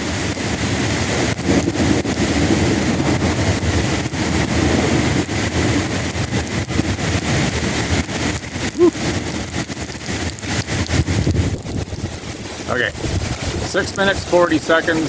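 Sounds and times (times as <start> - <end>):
heavy rain pouring: 0.0 - 15.0
low thunder rumble: 0.0 - 15.0.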